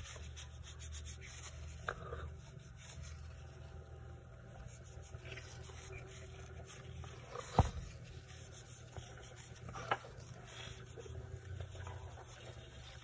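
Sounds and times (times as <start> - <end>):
faint low hum: 0.0 - 13.0
small handling sounds: 0.0 - 13.0.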